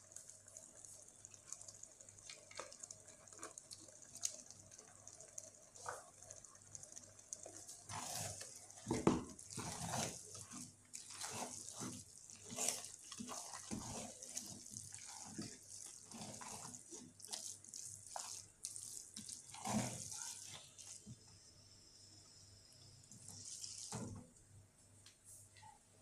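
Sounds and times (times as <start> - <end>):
wooden spatula stirring in metal pot: 0.0 - 21.3, 23.1 - 24.4.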